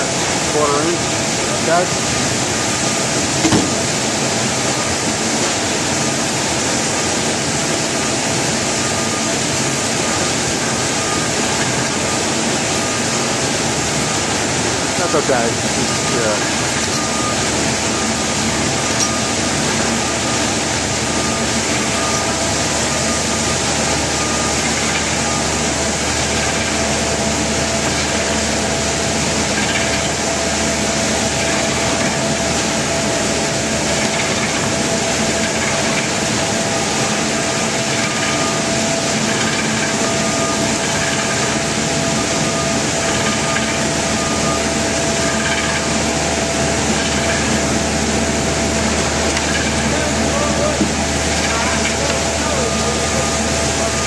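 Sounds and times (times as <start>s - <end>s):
slicing machine droning: 0.0s - 54.0s.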